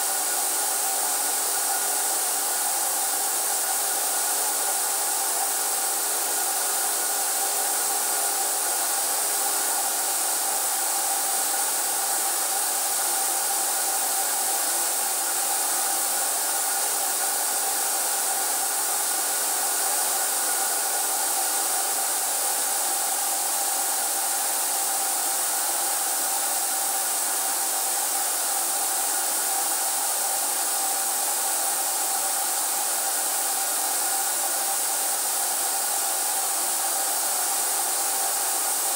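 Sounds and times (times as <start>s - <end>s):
loud air hiss: 0.0s - 38.9s
paint sprayer blower whine: 0.0s - 38.9s.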